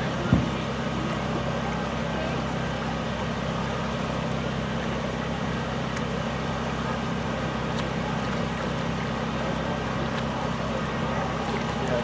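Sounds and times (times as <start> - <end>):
constant rushing noise: 0.0 - 12.0
low engine hum: 0.0 - 12.0.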